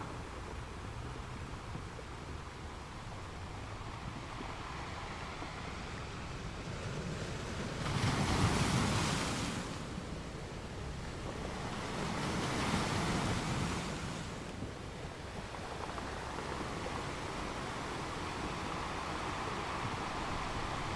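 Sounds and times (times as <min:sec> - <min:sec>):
sea waves washing onto shore: 0:01.6 - 0:20.9.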